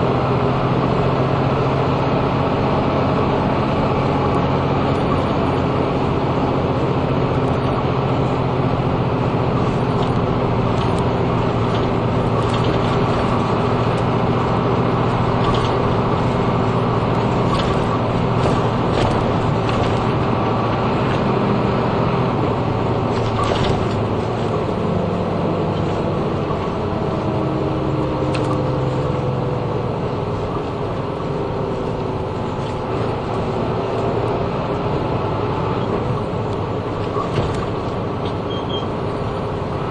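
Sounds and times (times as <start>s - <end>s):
bus diesel engine: 0.0s - 39.9s
rattles and clicks in bus interior: 0.0s - 39.9s
road noise: 0.0s - 39.9s.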